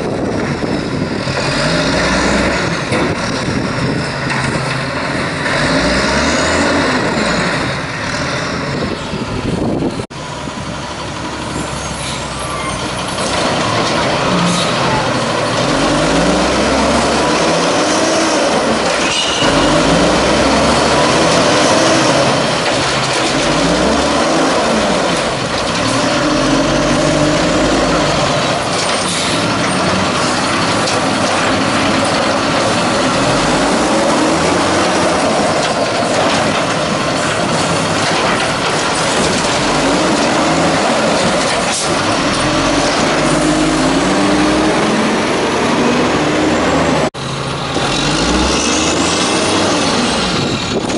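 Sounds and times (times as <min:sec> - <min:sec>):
garbage truck engine revving: 0:00.0 - 0:50.9.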